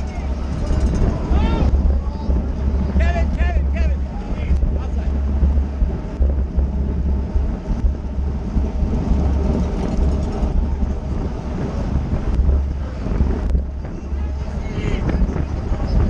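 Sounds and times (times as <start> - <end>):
road and tyre noise: 0.0 - 16.0
wind buffeting microphone: 0.0 - 16.0.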